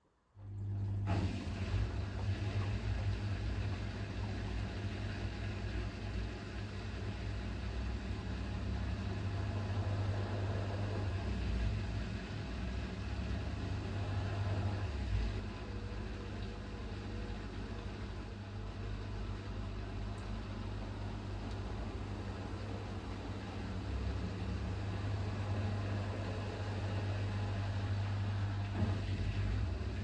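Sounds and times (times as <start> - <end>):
washing machine running: 0.3 - 30.0.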